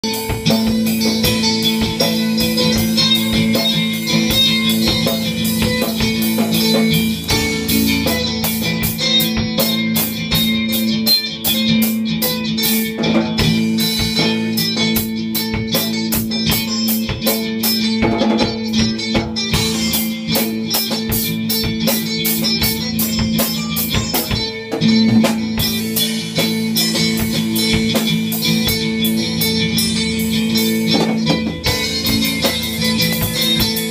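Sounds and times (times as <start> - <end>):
drum kit beat: 0.0 - 33.9
electric guitar: 0.0 - 33.9.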